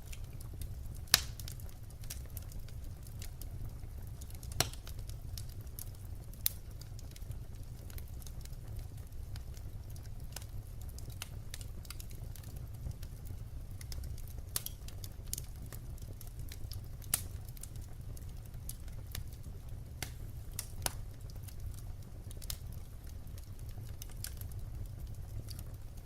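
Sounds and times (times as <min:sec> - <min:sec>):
firewood crackling and popping: 0:00.0 - 0:26.0
low fire rumble: 0:00.0 - 0:26.0.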